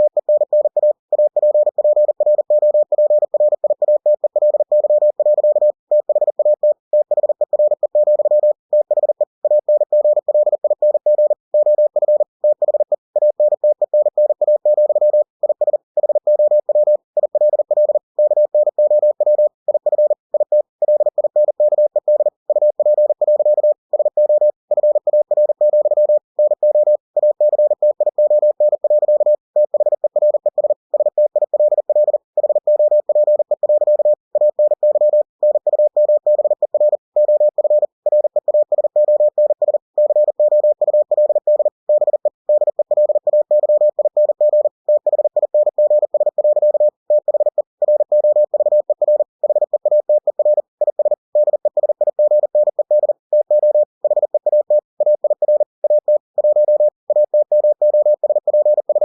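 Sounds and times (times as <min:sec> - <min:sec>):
morse code tone: 0:00.0 - 0:59.0.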